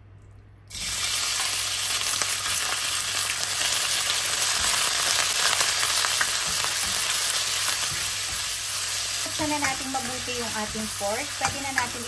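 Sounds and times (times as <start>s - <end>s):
meat sizzling in hot oil: 0.7s - 12.0s.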